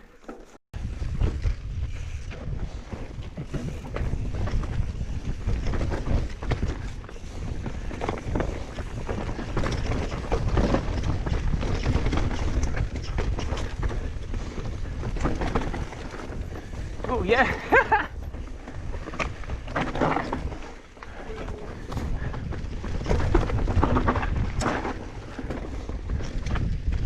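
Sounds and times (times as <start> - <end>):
bike rattling over rough trail: 0.0 - 27.0
wind buffeting microphone: 0.8 - 27.0.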